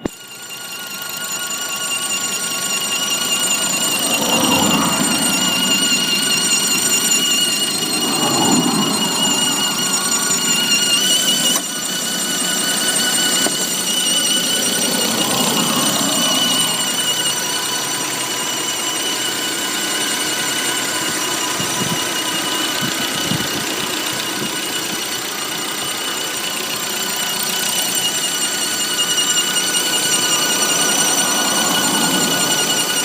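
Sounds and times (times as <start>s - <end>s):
car engine running: 0.0s - 33.0s
water pump high-pitched whistle: 0.0s - 33.0s.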